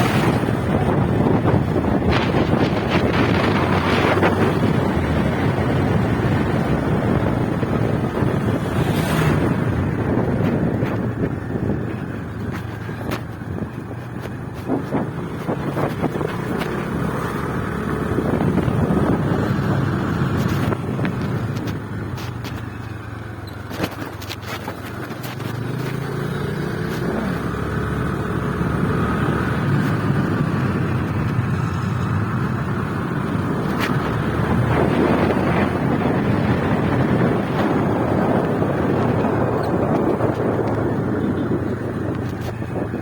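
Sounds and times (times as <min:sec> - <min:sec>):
motorcycle engine running: 0:00.0 - 0:43.0
road and wind noise: 0:00.0 - 0:43.0.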